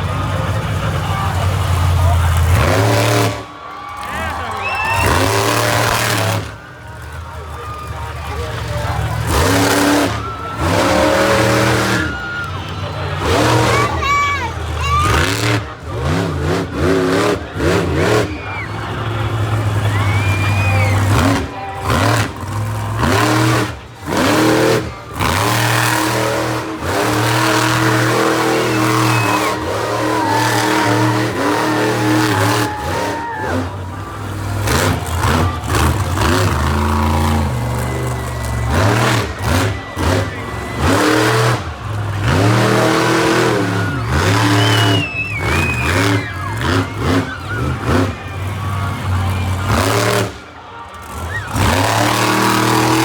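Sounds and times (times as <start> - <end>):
monster truck engine revving: 0.0 - 53.0.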